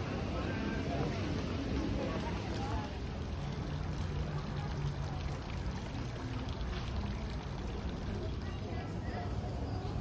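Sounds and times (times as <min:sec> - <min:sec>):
fountain water splashing: 0:01.0 - 0:09.0.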